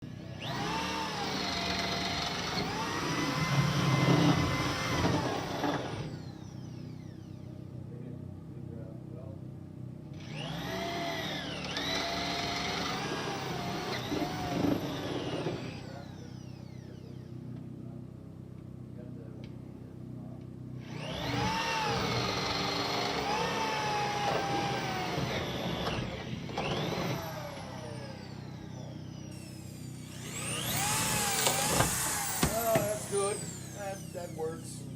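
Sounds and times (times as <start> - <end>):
electric drill boring: 0.1 - 7.6, 10.2 - 17.2, 20.8 - 34.9.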